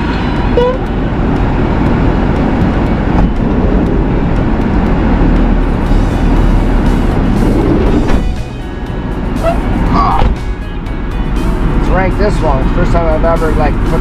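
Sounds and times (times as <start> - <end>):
vehicle running with rushing rumble: 0.0 - 14.0.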